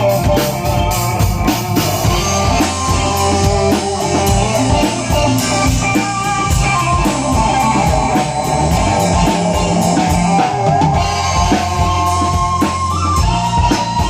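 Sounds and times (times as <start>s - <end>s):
loud band music: 0.0s - 14.0s.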